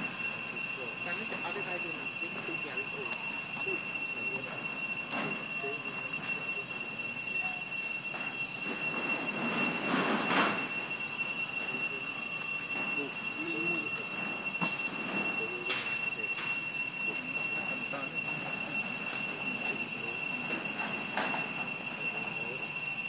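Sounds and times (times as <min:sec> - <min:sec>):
cicadas droning: 0:00.0 - 0:23.0
forest ambience: 0:00.0 - 0:23.0.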